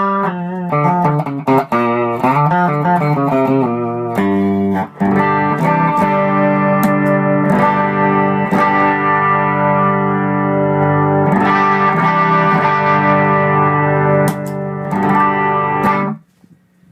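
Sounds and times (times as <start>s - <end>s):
electric guitar chords ringing: 0.0s - 16.2s.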